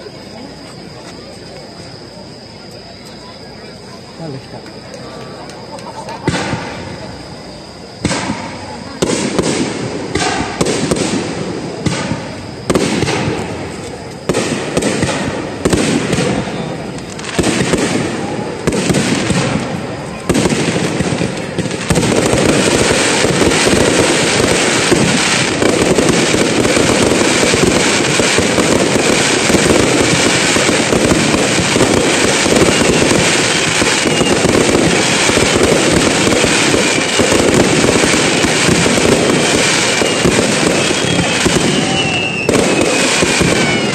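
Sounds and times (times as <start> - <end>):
fireworks booming: 0.0 - 43.9
fireworks crackling: 0.0 - 43.9.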